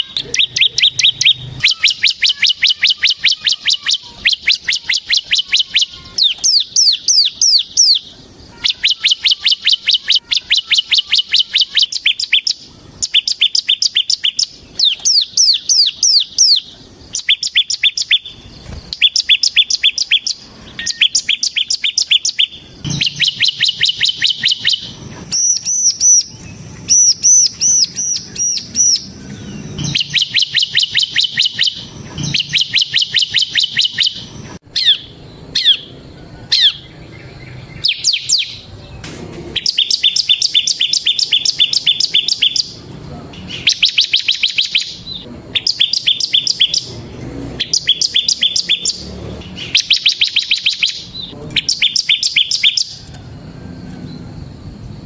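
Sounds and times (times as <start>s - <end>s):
bird singing rapid trills: 0.0s - 55.0s.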